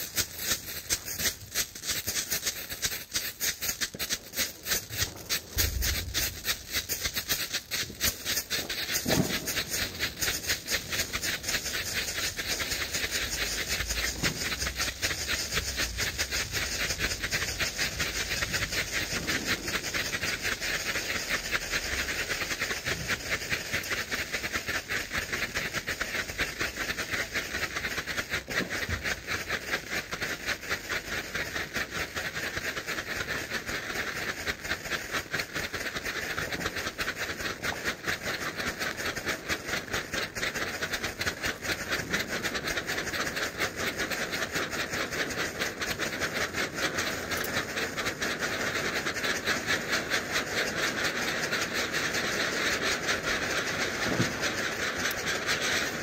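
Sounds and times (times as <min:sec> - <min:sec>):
flares hissing and crackling: 0:00.0 - 0:56.0.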